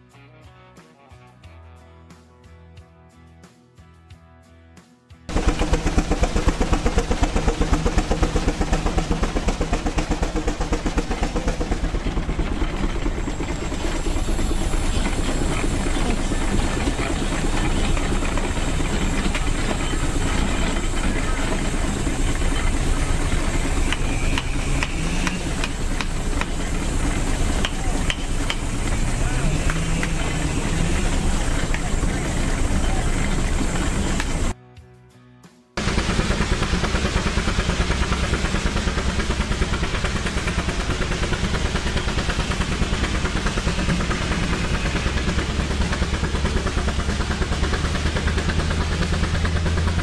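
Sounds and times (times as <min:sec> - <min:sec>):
steam engine exhaust chuffing: 0:05.3 - 0:34.6, 0:35.8 - 0:50.0
steam engines churning: 0:05.3 - 0:34.6, 0:35.8 - 0:50.0
steam hissing: 0:05.3 - 0:34.6, 0:35.8 - 0:50.0.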